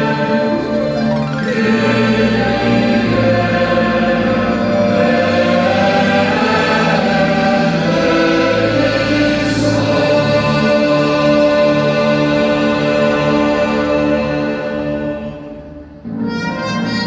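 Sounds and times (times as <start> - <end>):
choir singing: 0.0 - 17.0
symphony orchestra: 0.0 - 17.0.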